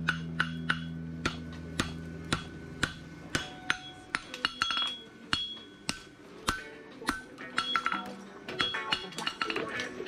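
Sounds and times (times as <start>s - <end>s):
hammer ringing on anvil: 0.0s - 9.6s.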